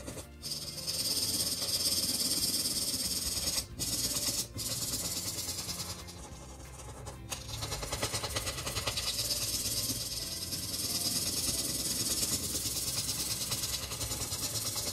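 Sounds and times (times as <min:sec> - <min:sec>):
marker scratching on paper: 0:00.0 - 0:14.9.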